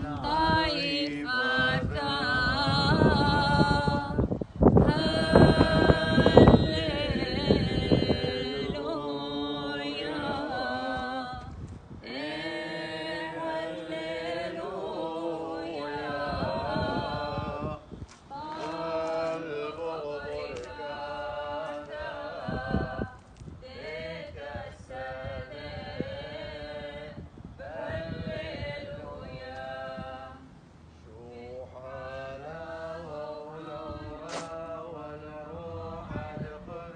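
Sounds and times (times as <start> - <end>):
voices singing a chant: 0.0 - 36.9.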